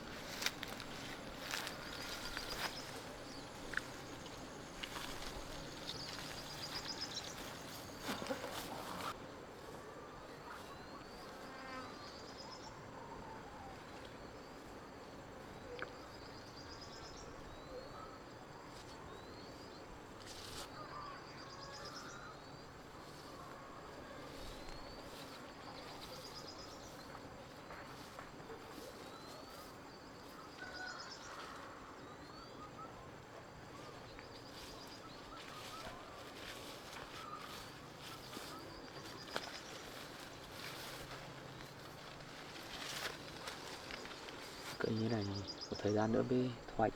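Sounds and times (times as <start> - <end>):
steady background hiss: 0.0 - 46.9.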